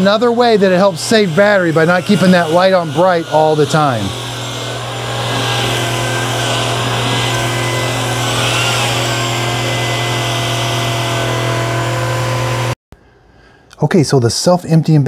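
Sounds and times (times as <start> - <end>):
vacuum cleaner running: 0.0 - 12.8.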